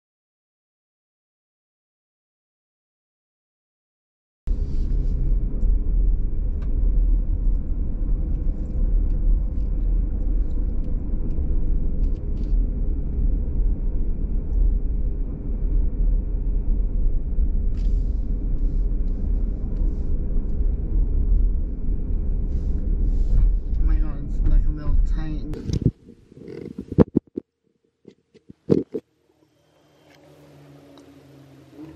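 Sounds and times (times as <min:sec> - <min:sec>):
car interior road rumble: 0:04.5 - 0:27.4, 0:28.4 - 0:31.9
faint steady hum: 0:04.5 - 0:27.5, 0:28.3 - 0:31.9.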